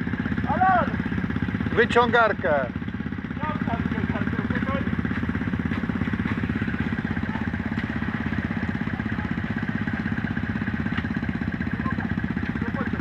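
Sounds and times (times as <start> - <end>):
quad bike engine idling: 0.0 - 13.0.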